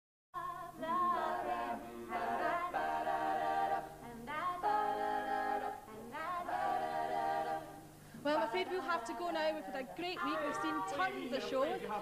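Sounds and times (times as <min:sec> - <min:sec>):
women singing a cappella: 0:00.4 - 0:12.0.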